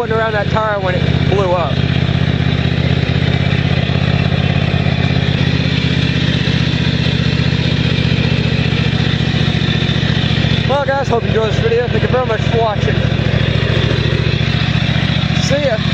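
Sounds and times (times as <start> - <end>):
lawn tractor engine running: 0.0 - 15.9.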